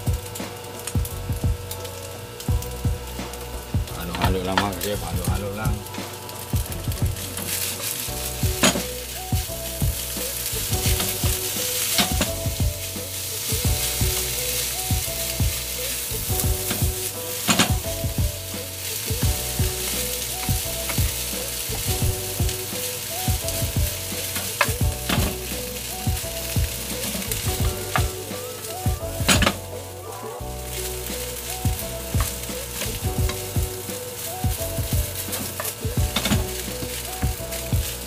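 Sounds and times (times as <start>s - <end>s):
rice sizzling in a frying pan: 0.0s - 29.8s, 30.5s - 38.0s.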